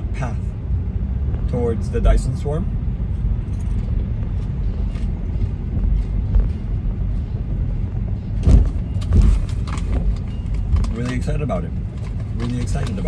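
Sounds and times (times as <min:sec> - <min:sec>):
low rumble of road noise: 0:00.0 - 0:13.0.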